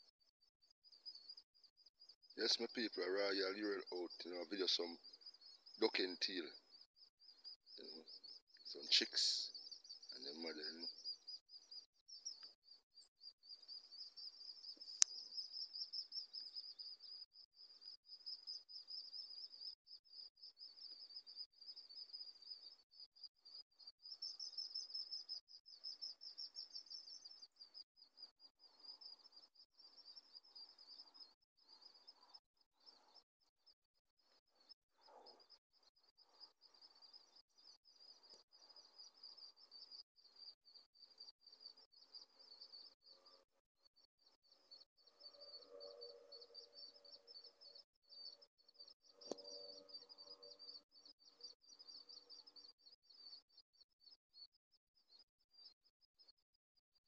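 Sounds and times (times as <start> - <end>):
insect trill: 0.1 - 54.6.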